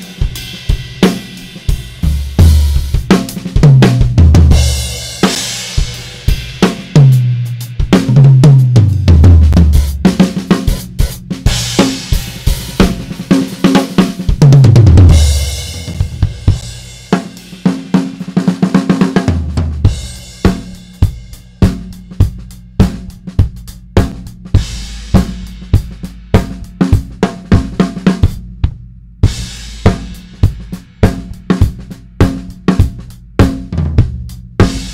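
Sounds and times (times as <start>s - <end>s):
drum groove on snare and hi-hat: 0.0s - 34.9s.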